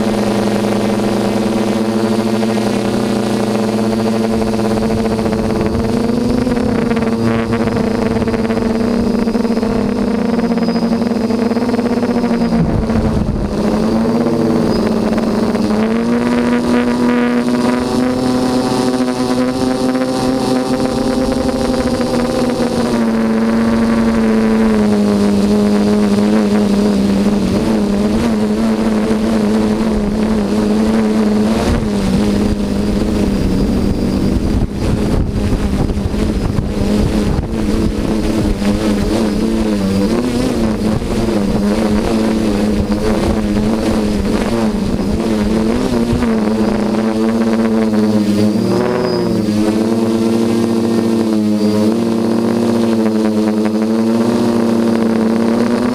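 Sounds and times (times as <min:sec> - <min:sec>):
low rushing noise: 0:00.0 - 0:55.9
quadcopter propellers buzzing: 0:00.0 - 0:55.9.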